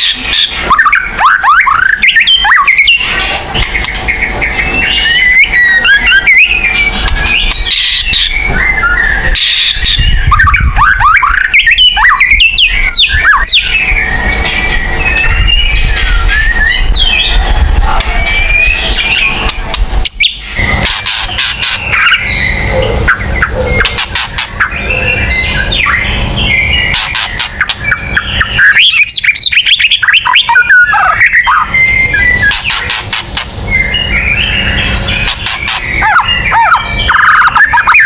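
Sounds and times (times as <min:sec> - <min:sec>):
songbird whistling and chirping: 0:00.0 - 0:38.0.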